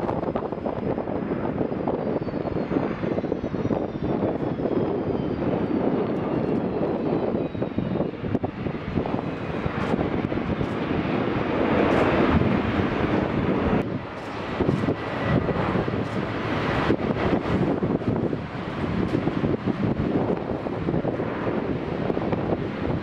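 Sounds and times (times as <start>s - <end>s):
jet engines rushing with whine: 0.0s - 23.0s.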